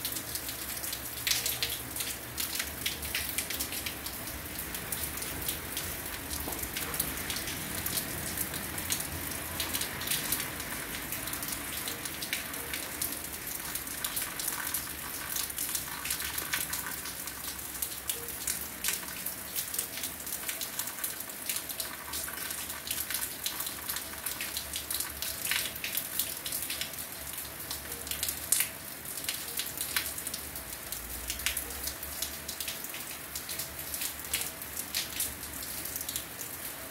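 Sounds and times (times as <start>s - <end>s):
heavy rain on hard surfaces: 0.0s - 36.9s.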